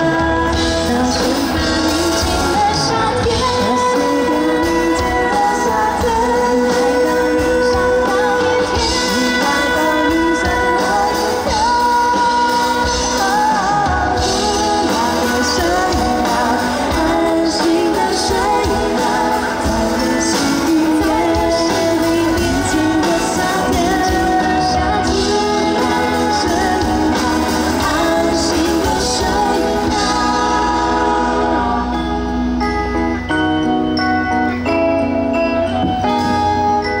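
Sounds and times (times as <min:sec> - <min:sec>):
pop song with lead vocalist: 0:00.0 - 0:37.0.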